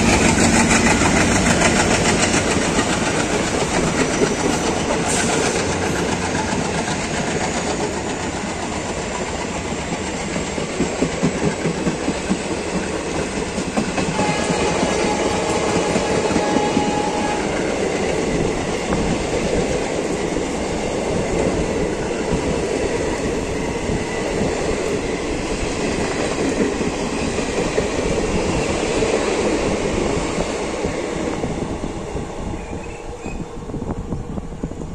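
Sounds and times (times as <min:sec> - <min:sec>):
train wheels rumbling and rattling: 0:00.0 - 0:34.9.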